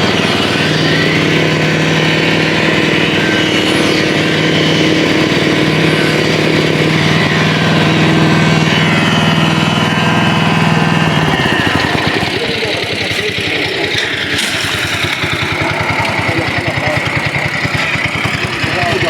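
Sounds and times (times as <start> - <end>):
construction machinery engine running: 0.0 - 19.0.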